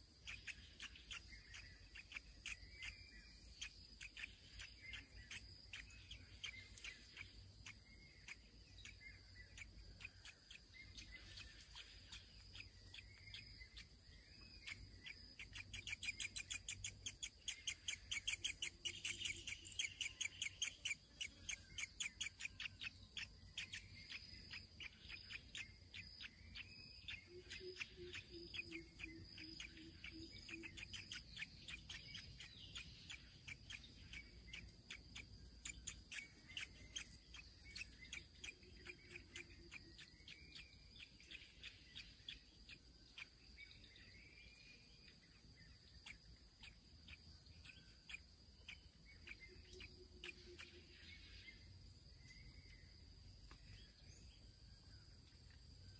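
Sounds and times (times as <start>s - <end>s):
birds chirping: 0.0s - 55.9s
rapid ticking bird calls: 0.0s - 55.9s.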